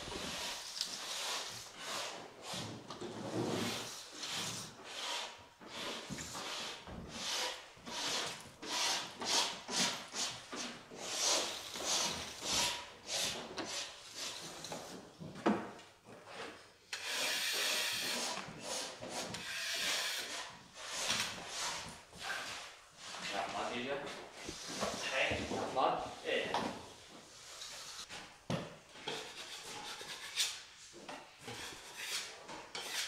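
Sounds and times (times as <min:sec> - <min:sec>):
drywall tool scraping: 0:00.0 - 0:15.2, 0:16.1 - 0:23.6, 0:24.3 - 0:28.3, 0:28.9 - 0:33.0.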